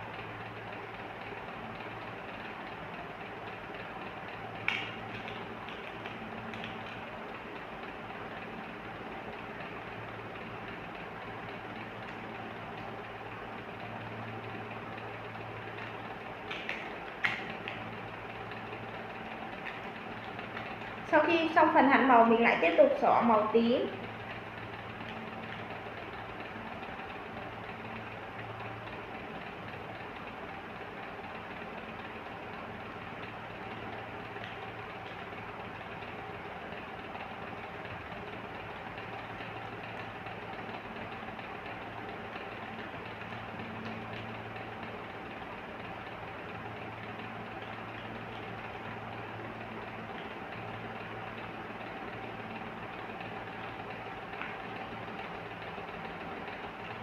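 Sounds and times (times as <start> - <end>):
low background hum: 0.0 - 57.0.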